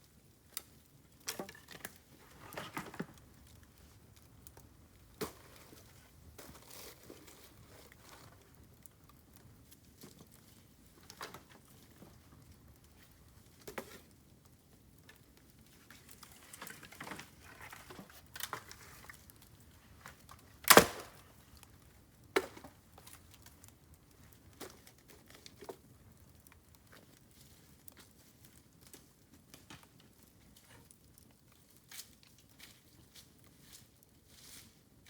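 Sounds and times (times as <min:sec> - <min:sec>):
fire crackling: 0:00.0 - 0:34.2
burning bamboo popping: 0:00.1 - 0:33.9.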